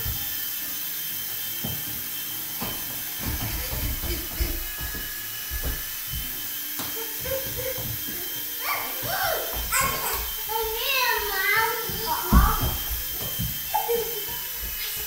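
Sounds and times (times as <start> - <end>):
toy helicopter rotors whirring: 0.0 - 15.0.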